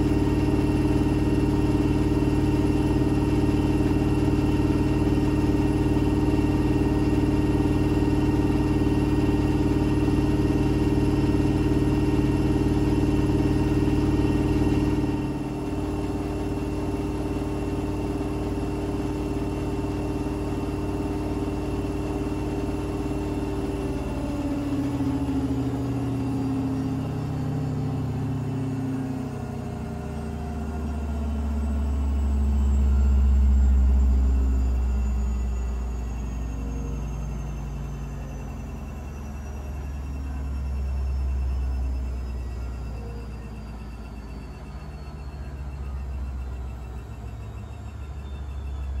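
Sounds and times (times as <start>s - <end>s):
washing machine spin slowing: 0.0s - 49.0s.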